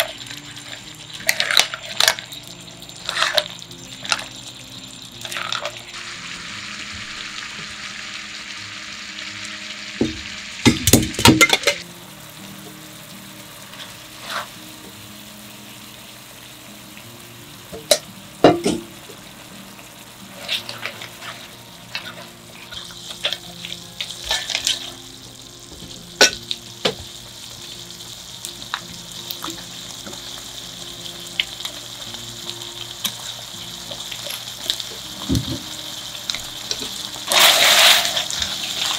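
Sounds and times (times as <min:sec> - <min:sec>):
sauce sizzling in frying pan: 0:00.0 - 0:38.9.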